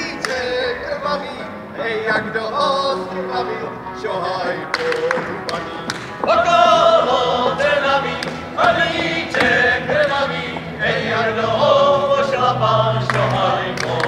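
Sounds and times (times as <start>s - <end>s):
group singing folk song: 0.0s - 14.0s.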